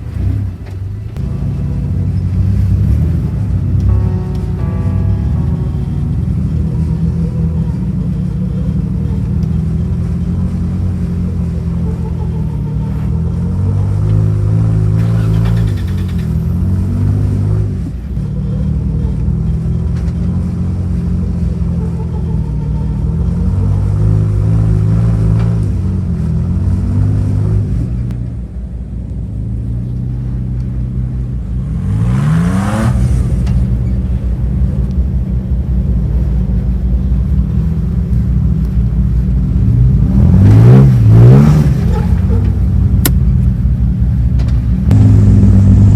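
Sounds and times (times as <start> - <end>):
simulated truck engine revving: 0.0 - 45.9.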